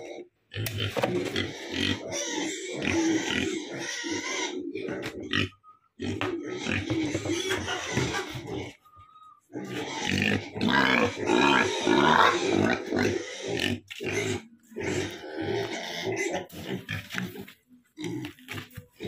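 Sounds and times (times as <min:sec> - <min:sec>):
pigs grunting: 0:00.0 - 0:19.0.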